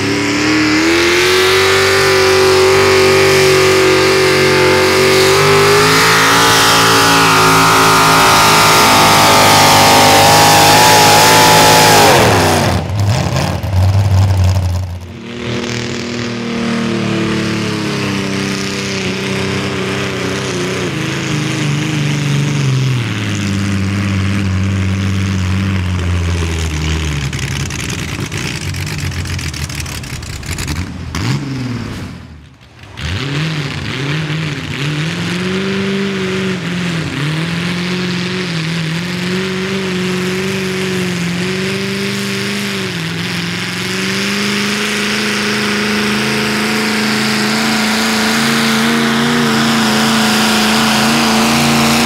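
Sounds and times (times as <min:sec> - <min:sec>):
tractor engine at full throttle: 0:00.0 - 0:52.0.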